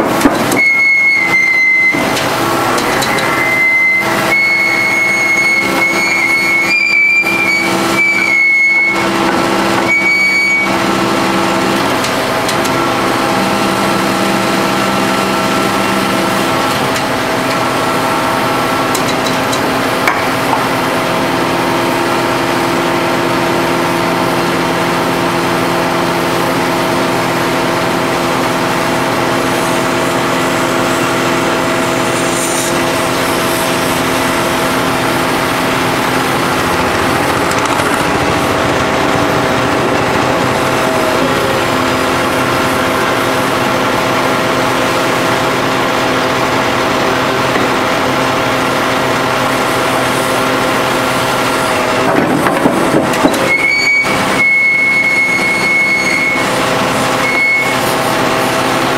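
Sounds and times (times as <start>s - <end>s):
hydraulic power pack whining: 0.0s - 58.9s.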